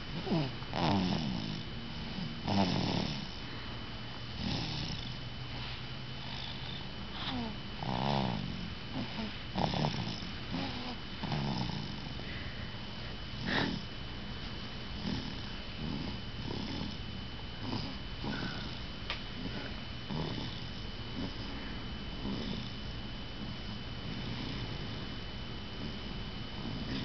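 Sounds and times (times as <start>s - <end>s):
pet snoring: 0.1s - 3.4s, 4.4s - 5.2s, 6.2s - 12.3s, 13.4s - 13.9s, 15.0s - 21.6s, 22.2s - 25.2s, 25.8s - 27.0s.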